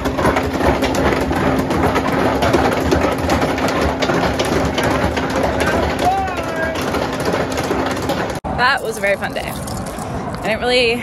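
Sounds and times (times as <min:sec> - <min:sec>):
roller coaster rattling on track: 0:00.0 - 0:09.5.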